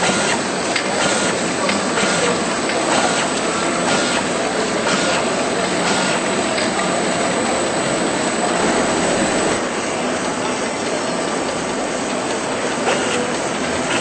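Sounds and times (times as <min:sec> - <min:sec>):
labelling machine hiss and hum: 0:00.0 - 0:14.0.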